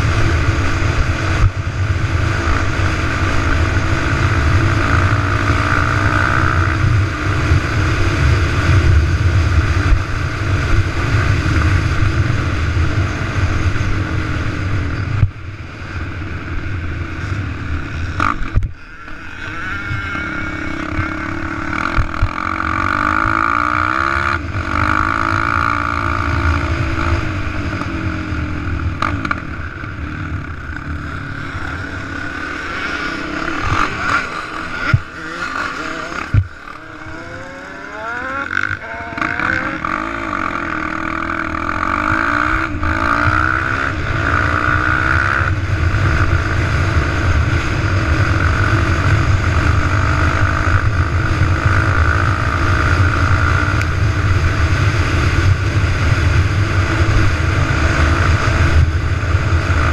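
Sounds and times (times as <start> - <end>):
quad engine revving: 0.0 - 14.7, 17.4 - 59.9.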